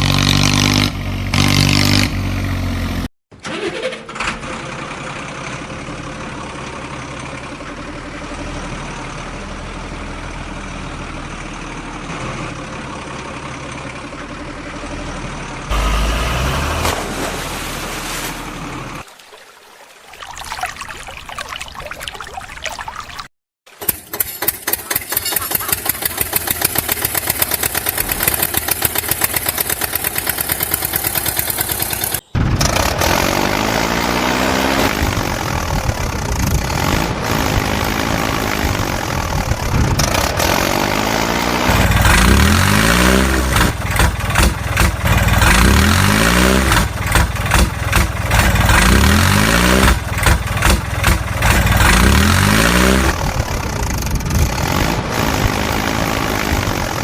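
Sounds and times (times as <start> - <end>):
tractor engine revving: 0.0 - 10.4, 11.8 - 19.0, 23.7 - 57.0.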